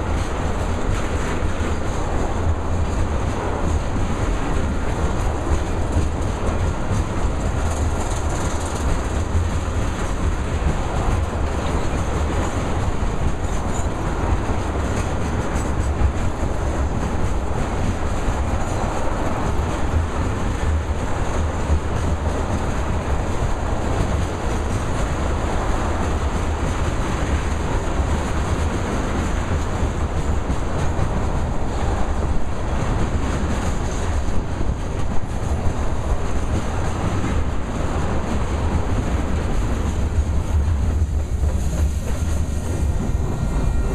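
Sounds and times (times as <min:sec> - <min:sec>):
train wheels on rails: 0:00.0 - 0:43.9.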